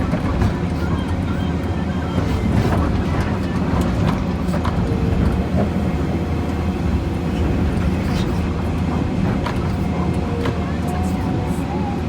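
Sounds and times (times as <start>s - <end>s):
excavator diesel engine rumbling: 0.0s - 12.0s.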